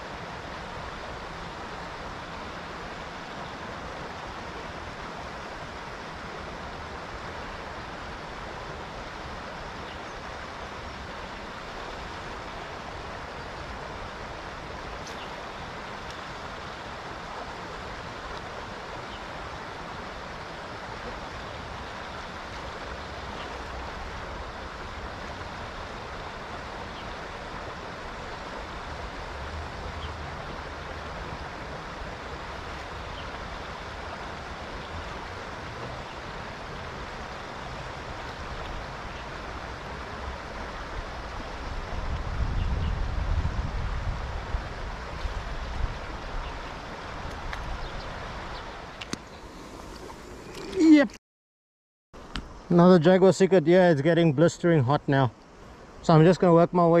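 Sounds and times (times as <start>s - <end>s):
river rushing over rapids: 0.0s - 51.1s.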